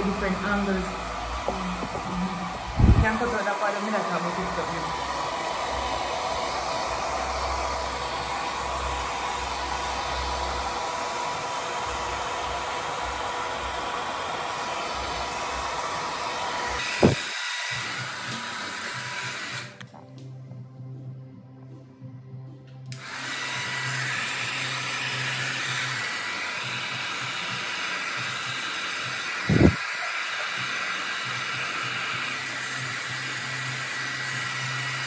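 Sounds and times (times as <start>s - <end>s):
hair dryer blowing: 0.0s - 19.9s, 22.9s - 35.0s.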